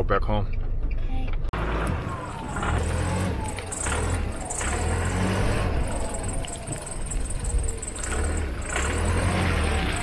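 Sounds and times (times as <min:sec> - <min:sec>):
car engine running: 0:01.5 - 0:10.0.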